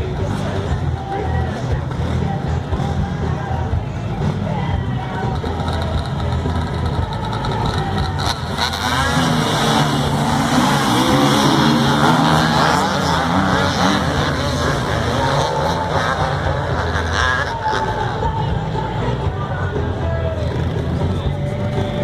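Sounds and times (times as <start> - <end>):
motorcycle engine revving: 4.2 - 22.0.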